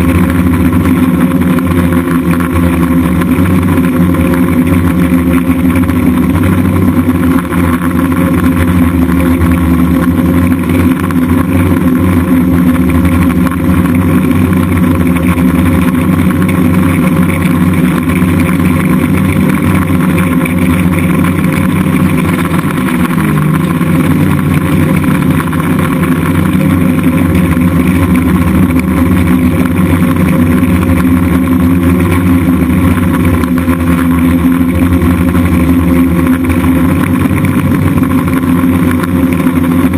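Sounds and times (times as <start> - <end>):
drone motors and propellers: 0.0 - 39.9.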